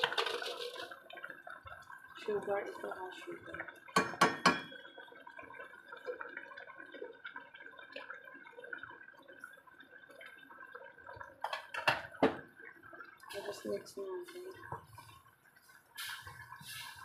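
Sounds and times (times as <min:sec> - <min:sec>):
thick sauce simmering and bubbling: 0:00.0 - 0:17.0.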